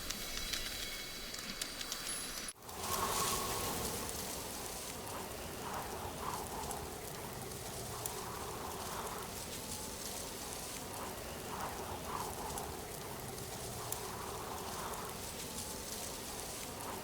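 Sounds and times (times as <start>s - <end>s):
rain-like hiss: 0.0s - 17.0s.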